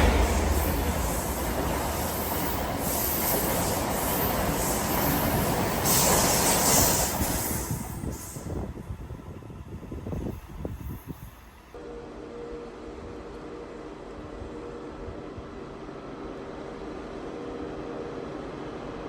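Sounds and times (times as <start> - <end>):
rail grinding train passing: 0.0 - 19.0.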